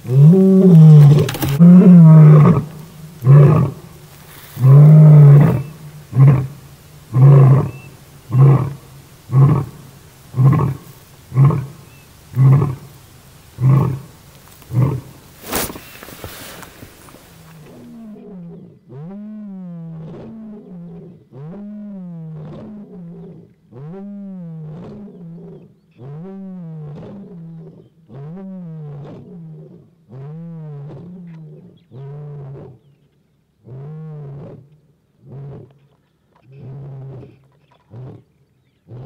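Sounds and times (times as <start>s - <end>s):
lion roaring and grunting: 0.0s - 12.9s, 13.6s - 14.1s, 14.7s - 32.8s.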